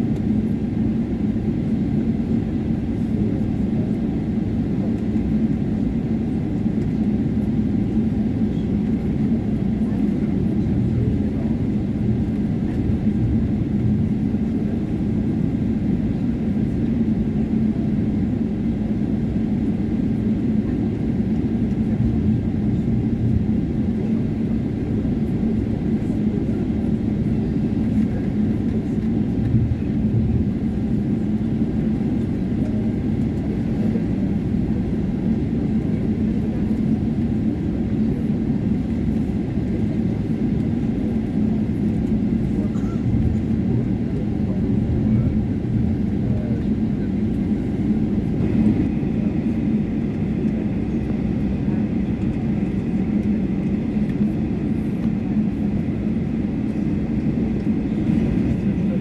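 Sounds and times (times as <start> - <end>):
constant low hum: 0.0 - 59.0
jet engines rumbling: 0.0 - 59.0.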